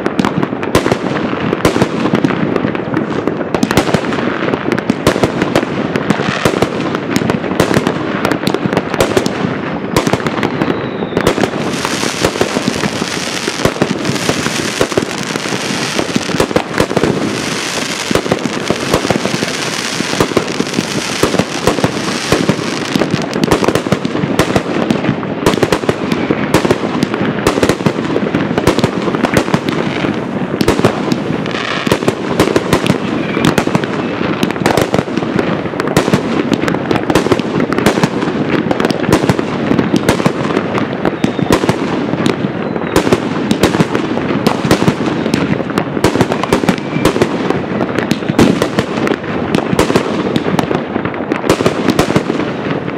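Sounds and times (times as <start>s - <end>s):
fireworks launching and bursting: 0.0s - 52.9s
hissing crackle of fireworks: 0.0s - 52.9s.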